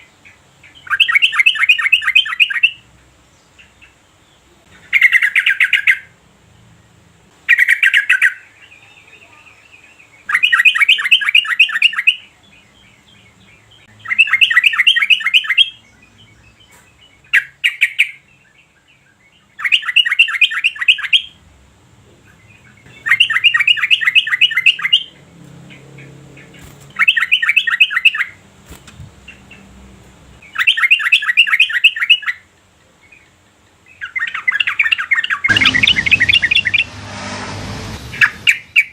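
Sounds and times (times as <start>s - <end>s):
bird chattering song: 0.0s - 2.8s, 3.4s - 6.1s, 7.5s - 21.4s, 22.2s - 36.8s.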